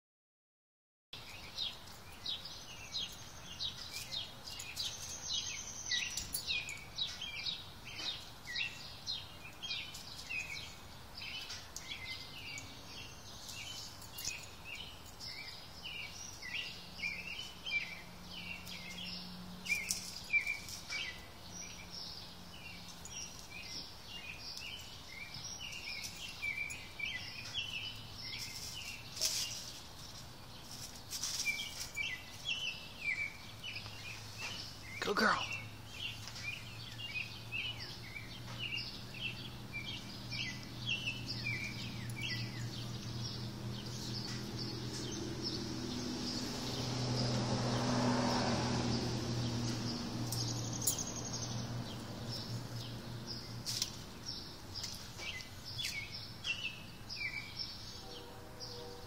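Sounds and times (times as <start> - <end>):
small birds chirping: 1.2 - 59.0.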